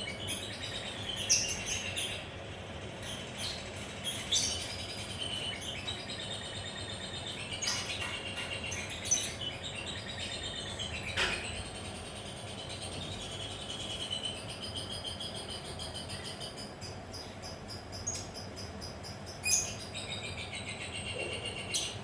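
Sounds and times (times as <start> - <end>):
lovebirds chattering and chirping: 0.0 - 22.0.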